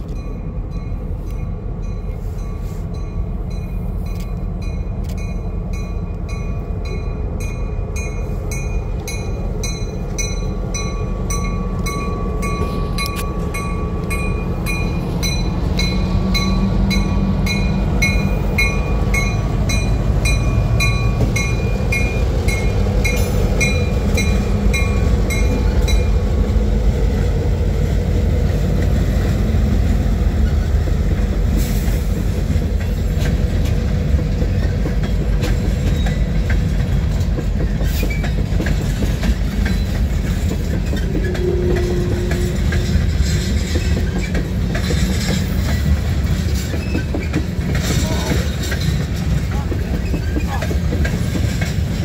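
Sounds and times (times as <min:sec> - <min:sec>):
railroad cars rumbling on rails: 0:00.0 - 0:52.0.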